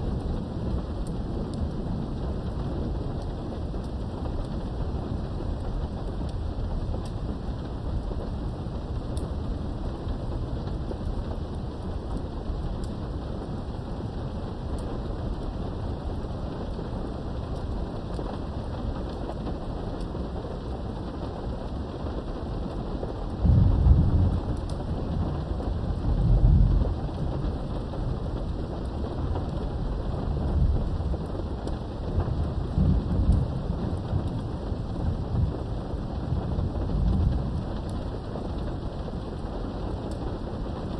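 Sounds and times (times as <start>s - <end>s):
steady rain falling: 0.0s - 40.9s
thunder rumbling: 0.0s - 40.9s.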